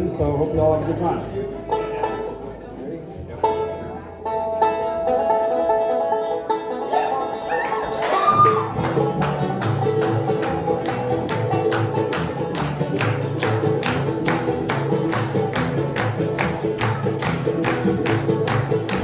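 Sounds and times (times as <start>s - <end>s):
bluegrass band playing: 0.0s - 19.0s
plucked strings: 0.0s - 19.0s.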